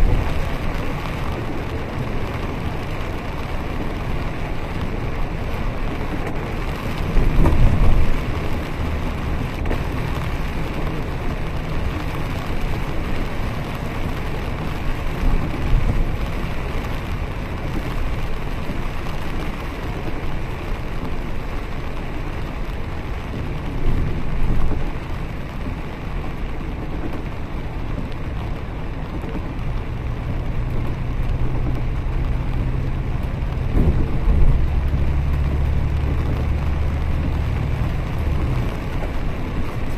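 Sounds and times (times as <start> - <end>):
bus engine hum: 0.0 - 39.9
heavy rain: 0.0 - 39.9
tyres on wet road: 0.0 - 39.9.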